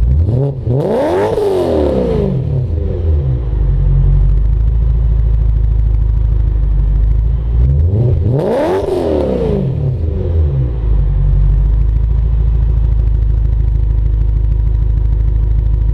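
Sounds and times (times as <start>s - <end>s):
car engine idling and revving: 0.0s - 15.9s.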